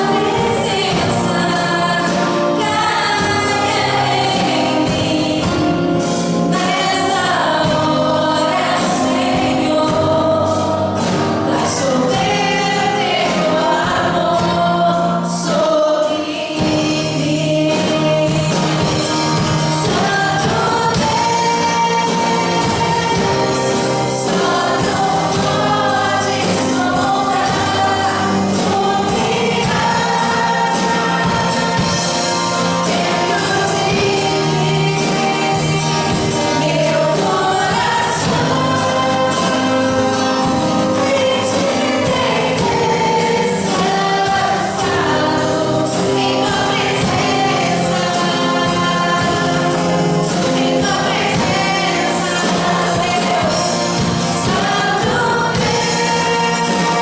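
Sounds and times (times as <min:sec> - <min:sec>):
choir singing worship song: 0:00.0 - 0:57.0
instrumental accompaniment: 0:00.0 - 0:57.0.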